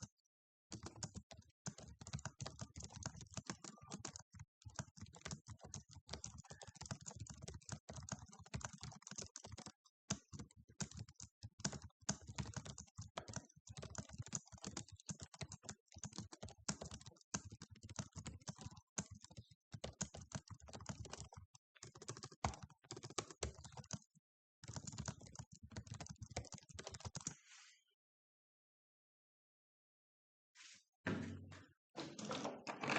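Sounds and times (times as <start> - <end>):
fast keyboard typing: 0.7 - 27.4.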